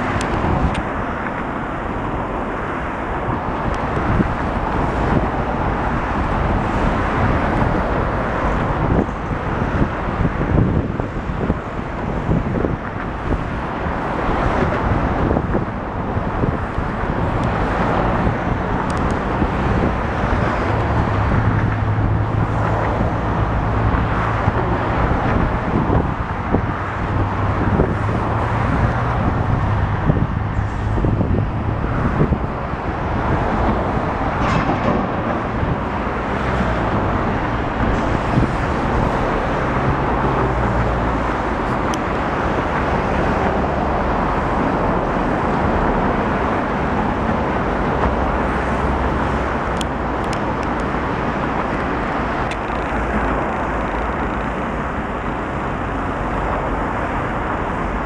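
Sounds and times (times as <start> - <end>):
heavy truck engines running: 0.0 - 58.0.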